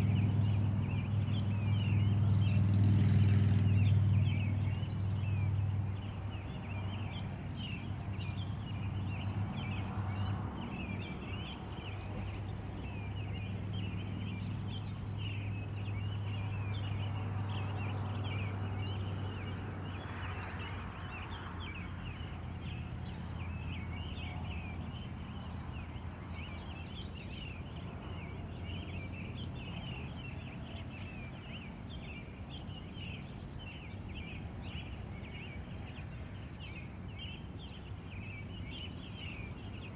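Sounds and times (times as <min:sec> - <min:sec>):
birds chirping: 0:00.0 - 0:39.9
insect trill: 0:00.0 - 0:39.9.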